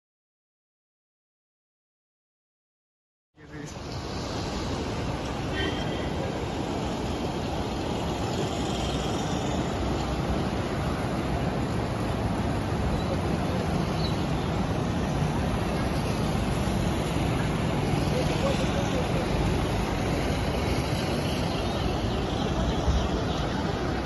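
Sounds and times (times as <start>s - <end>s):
river rushing: 3.5s - 24.0s.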